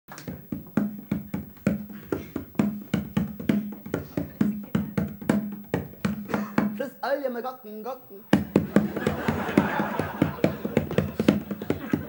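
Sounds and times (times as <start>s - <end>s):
hand drum played with hands: 0.3s - 6.8s, 8.3s - 12.0s.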